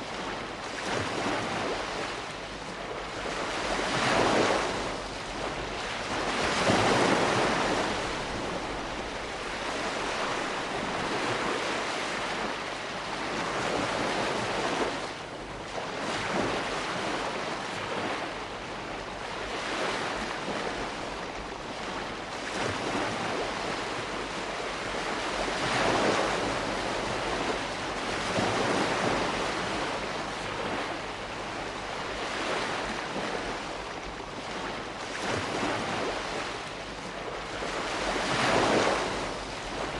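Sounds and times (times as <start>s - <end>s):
gentle waves washing in: 0.0s - 39.9s.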